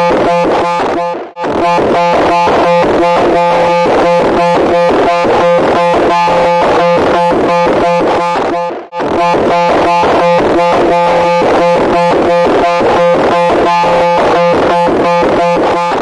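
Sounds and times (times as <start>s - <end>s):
pulsing electronic buzz: 0.0s - 16.0s.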